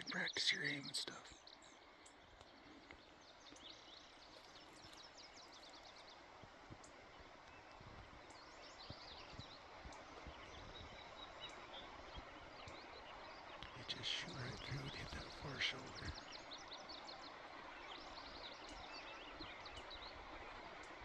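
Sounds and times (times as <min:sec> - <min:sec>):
outdoor background hiss: 0:00.0 - 0:21.0
small birds chirping: 0:00.0 - 0:21.0.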